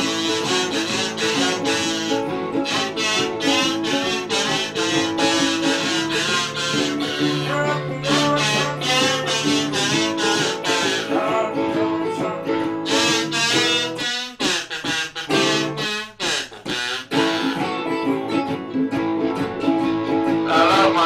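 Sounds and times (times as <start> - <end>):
acoustic blues guitar and ukulele: 0.0 - 21.0.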